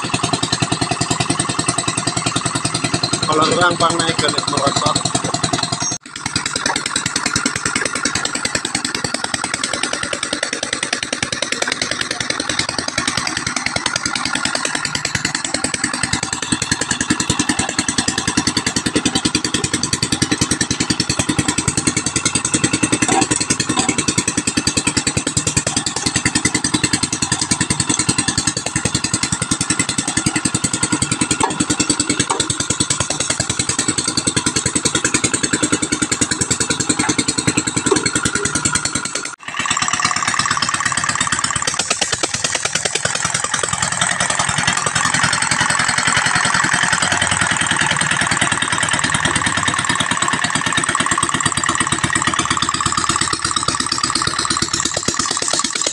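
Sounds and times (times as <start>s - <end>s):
engine-driven pressing machine running: 0.0s - 55.9s.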